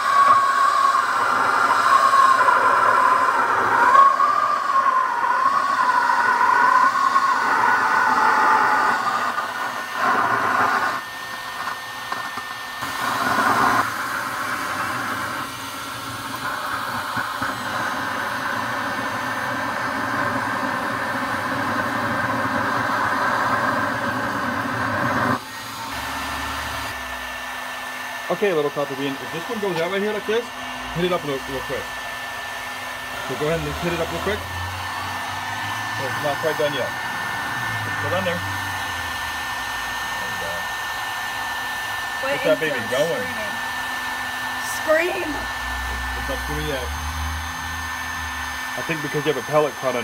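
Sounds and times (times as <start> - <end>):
heat gun blowing hiss: 0.0 - 50.0.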